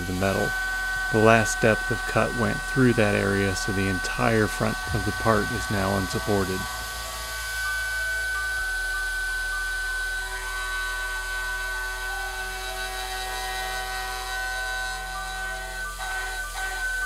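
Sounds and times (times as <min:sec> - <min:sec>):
end mill cutting metal squealing: 0:00.0 - 0:17.0.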